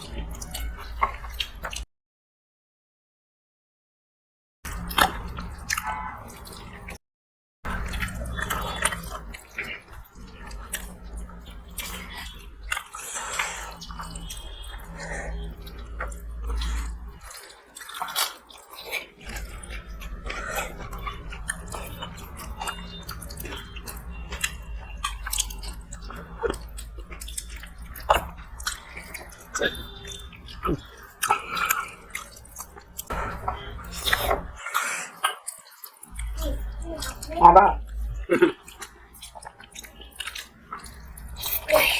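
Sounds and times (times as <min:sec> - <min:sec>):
people chewing and eating: 0:00.0 - 0:01.9, 0:04.7 - 0:07.0, 0:07.7 - 0:41.9.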